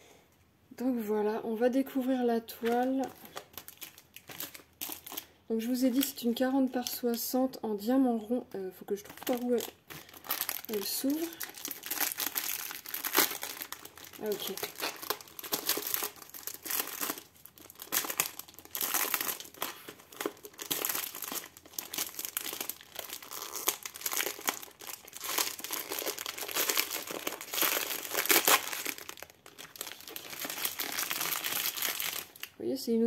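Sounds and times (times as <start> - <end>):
plastic film crinkling: 2.5 - 7.3, 8.9 - 32.6.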